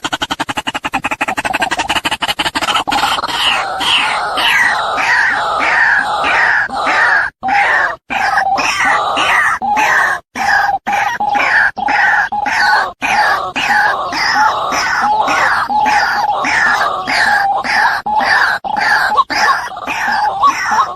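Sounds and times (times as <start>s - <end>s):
bird rapid clicking pulses: 0.0s - 20.9s.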